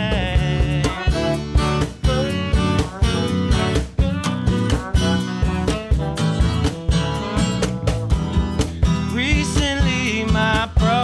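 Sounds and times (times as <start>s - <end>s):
drum kit beat: 0.0s - 11.0s
live jazzy band playing: 0.0s - 11.0s.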